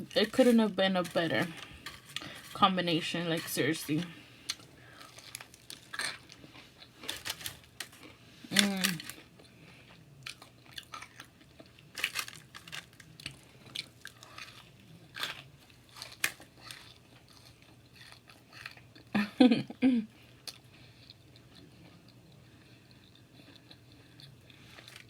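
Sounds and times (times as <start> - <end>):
crunching and chewing: 0.1 - 2.6, 3.4 - 19.1, 20.2 - 25.0.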